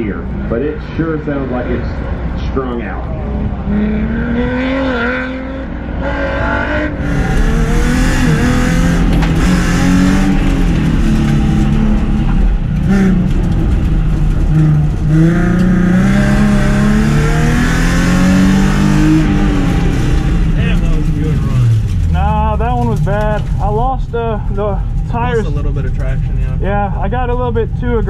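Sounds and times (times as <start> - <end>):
race car engine revving: 0.1 - 28.0.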